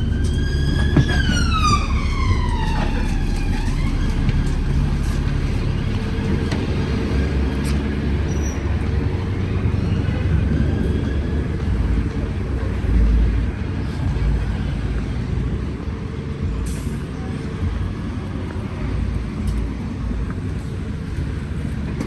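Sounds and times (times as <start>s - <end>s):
bus engine low rumble: 0.0s - 22.0s.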